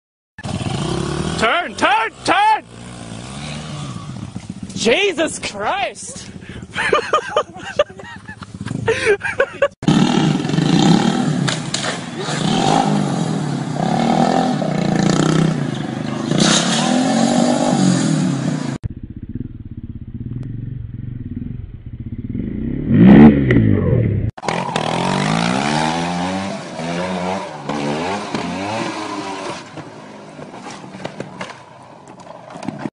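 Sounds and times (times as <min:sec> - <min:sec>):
motorcycle engines revving: 0:00.4 - 0:18.8, 0:21.4 - 0:32.9.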